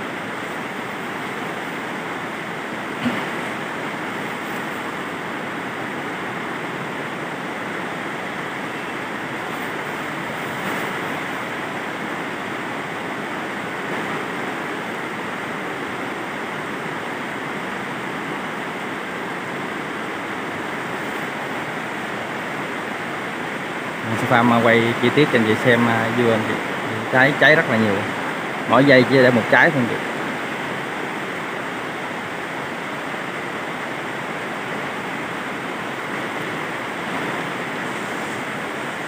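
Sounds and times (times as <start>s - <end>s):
rain on a plastic roof: 0.0s - 39.0s.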